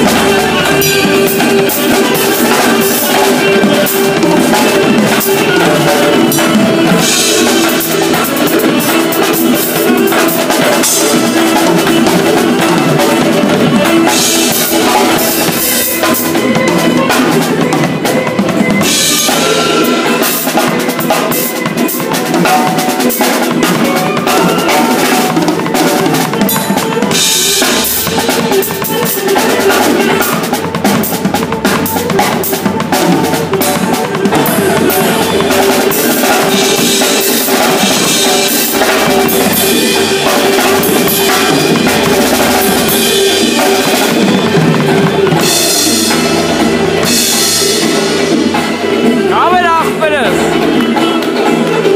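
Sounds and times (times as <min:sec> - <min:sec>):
drum kit playing fast: 0:00.0 - 0:51.9.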